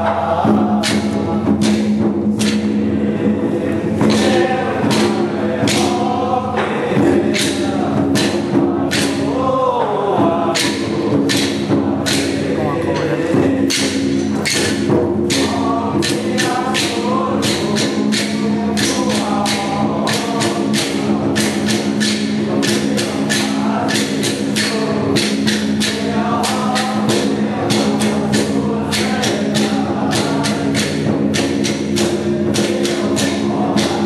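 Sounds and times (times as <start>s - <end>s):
cymbals clashing: 0.0s - 9.5s, 10.2s - 34.0s.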